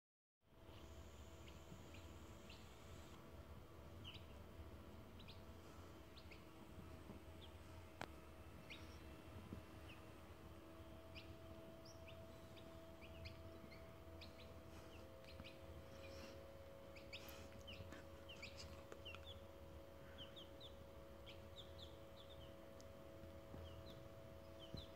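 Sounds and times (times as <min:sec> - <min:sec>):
chicks peeping: 0:00.6 - 0:24.9.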